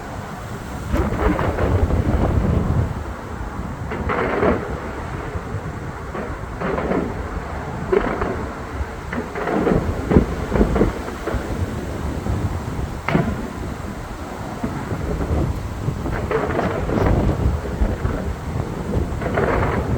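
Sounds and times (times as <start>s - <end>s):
crackling firework bursts: 0.0s - 19.9s
deep rumbling firework boom: 0.9s - 19.9s.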